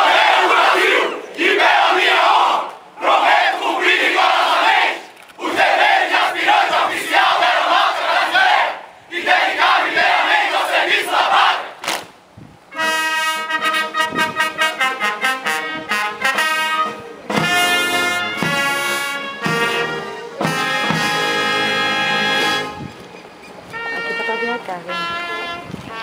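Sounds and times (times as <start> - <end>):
brass band playing a fanfare: 0.0 - 12.0, 12.7 - 23.0, 23.7 - 26.0.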